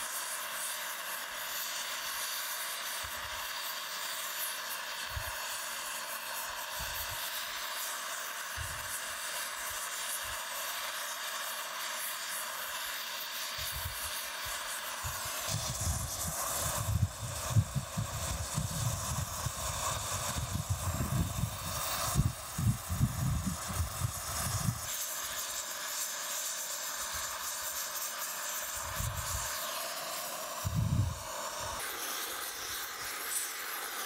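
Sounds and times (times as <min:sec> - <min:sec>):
gas torch flame hissing: 0:00.0 - 0:34.0.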